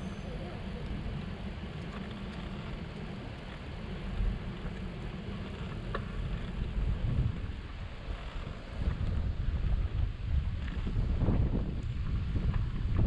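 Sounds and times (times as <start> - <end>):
faint outdoor background noise: 0.0 - 13.0
wind buffeting microphone: 0.0 - 13.0.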